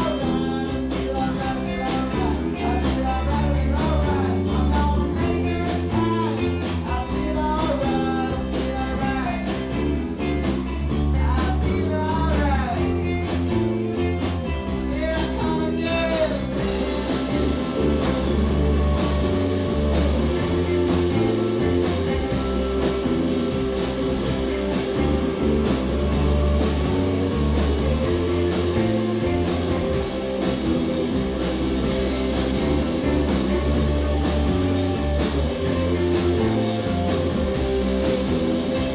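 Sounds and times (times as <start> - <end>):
bending guitar melody: 0.0 - 38.9
live rock band playing: 0.0 - 38.9.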